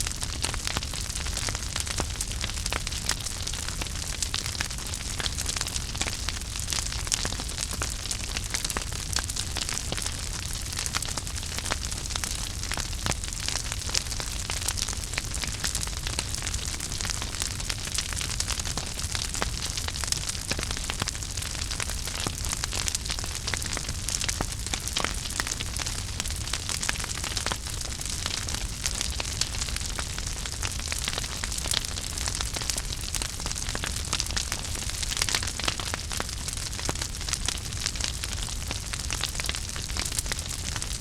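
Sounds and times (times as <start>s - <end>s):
fire crackles and pops: 0.0s - 41.0s
wood fire hissing and rumbling: 0.0s - 41.0s.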